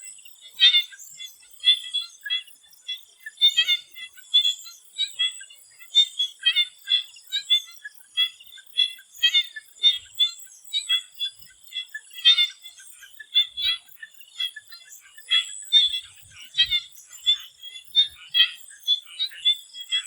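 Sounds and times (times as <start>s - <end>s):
frogs calling in chorus: 0.0s - 20.0s.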